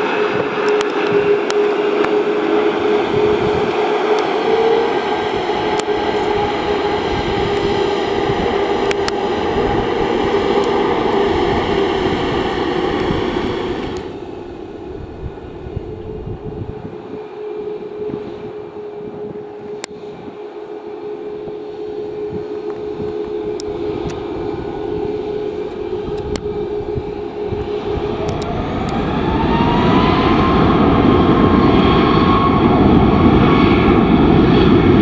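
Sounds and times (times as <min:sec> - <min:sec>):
jet engines taxiing: 0:00.0 - 0:35.0
jet plane landing: 0:00.0 - 0:35.0.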